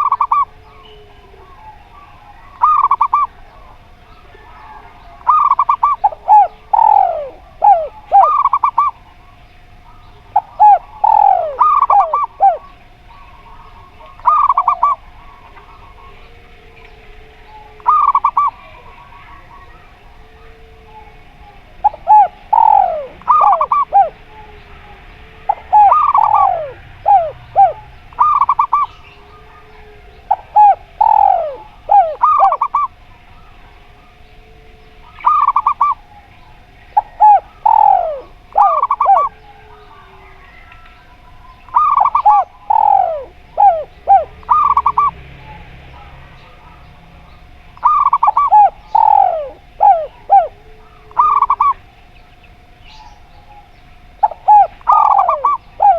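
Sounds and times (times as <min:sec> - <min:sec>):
doves cooing: 0:00.0 - 0:55.9.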